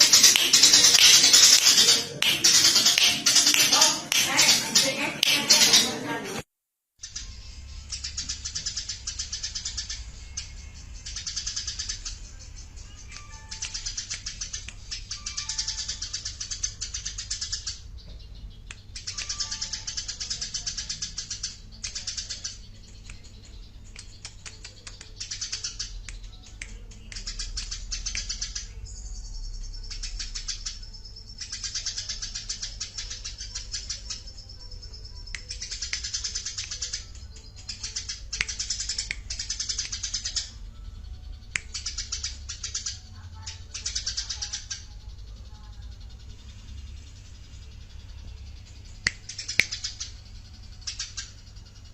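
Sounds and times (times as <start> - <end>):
sharp bird chips: 0.0 - 6.0, 7.0 - 51.9
songbirds chattering trills: 0.0 - 6.1, 7.0 - 51.9.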